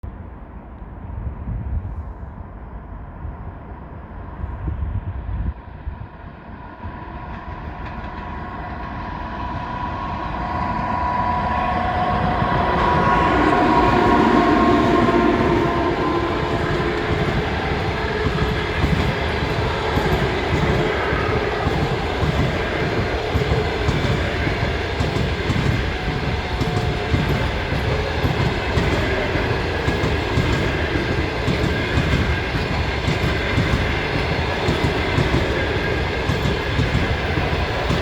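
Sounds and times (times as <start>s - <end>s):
train rumbling on rails: 0.0s - 38.0s
electric locomotive humming: 2.7s - 38.0s.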